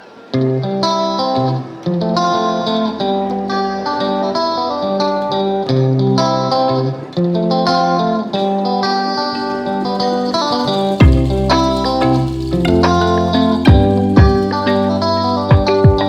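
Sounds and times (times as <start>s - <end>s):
plucked guitar melody: 0.2s - 16.0s.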